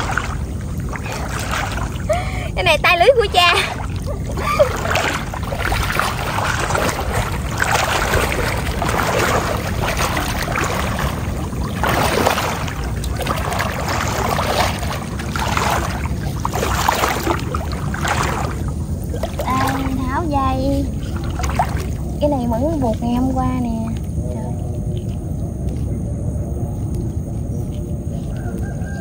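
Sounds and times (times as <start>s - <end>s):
water sloshing around wading legs: 0.0s - 25.8s.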